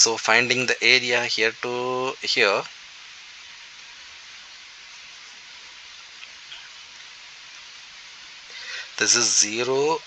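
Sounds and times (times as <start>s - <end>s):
recording hiss: 0.0s - 10.0s.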